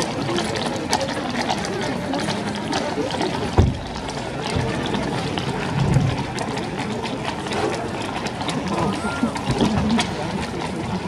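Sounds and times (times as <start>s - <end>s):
outdoor crowd murmur: 0.0s - 11.0s.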